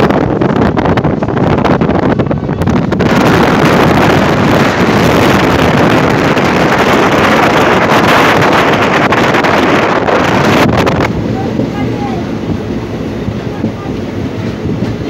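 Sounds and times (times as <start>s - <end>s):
train running noise: 0.0s - 15.0s
wind rushing over microphone: 0.0s - 15.0s.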